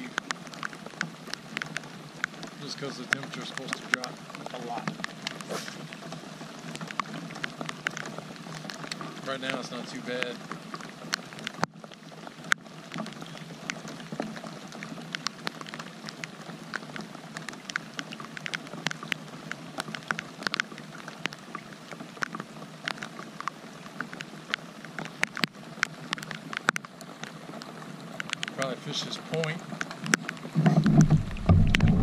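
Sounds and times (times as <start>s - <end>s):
raindrops ticking on a kayak: 0.0s - 32.0s
steady rain hiss: 0.0s - 32.0s.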